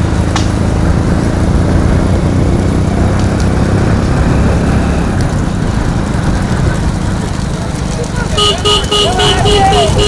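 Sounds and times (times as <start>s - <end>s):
road vehicle rumbling: 0.0s - 10.0s.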